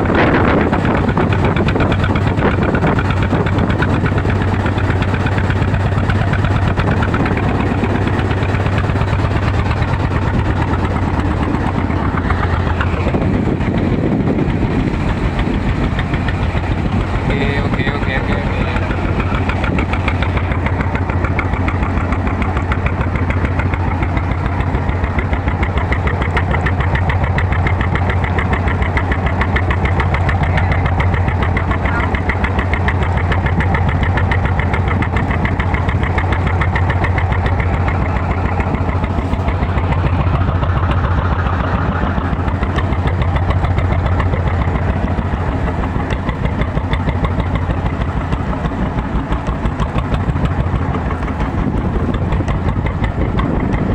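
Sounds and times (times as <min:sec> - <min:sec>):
small boat engine running: 0:00.0 - 0:53.9.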